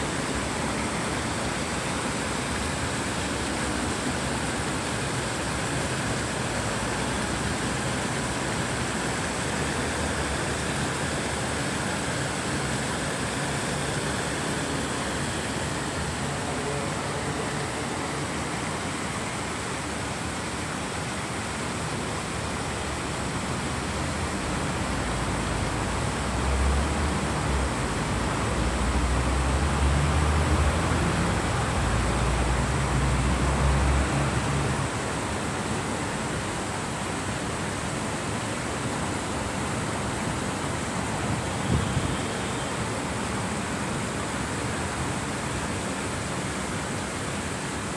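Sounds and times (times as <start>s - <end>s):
fountain water splashing: 0.0s - 47.9s.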